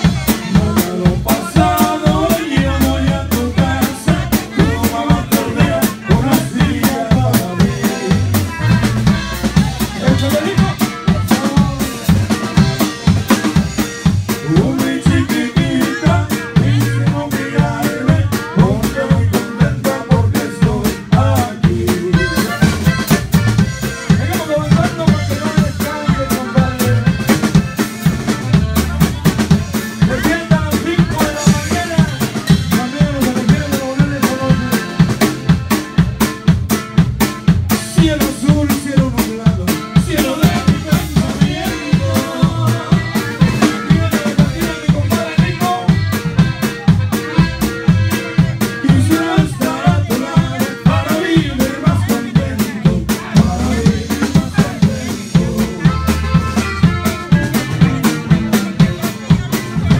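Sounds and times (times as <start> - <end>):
drum kit beat: 0.0 - 59.9
electric bass guitar: 0.0 - 59.9.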